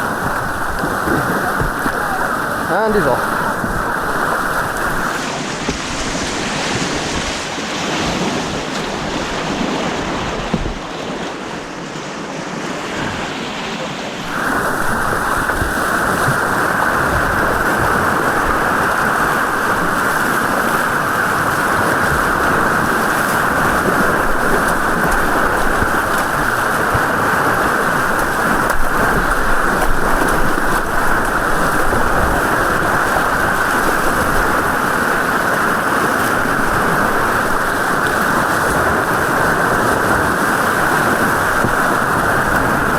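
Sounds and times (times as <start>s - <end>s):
rushing white water: 0.0s - 42.9s.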